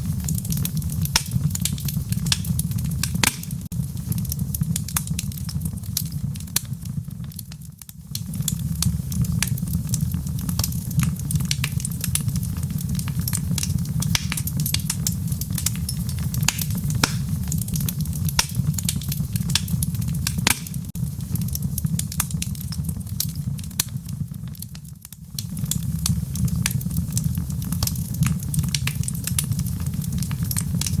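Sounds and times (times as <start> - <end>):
fire crackling and popping: 0.0 - 31.0
fire rumbling in fireplace: 0.0 - 31.0.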